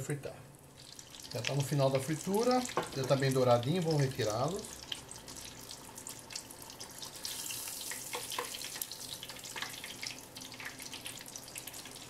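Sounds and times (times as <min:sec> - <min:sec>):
oil sizzling with crackles and pops: 0:00.0 - 0:12.0.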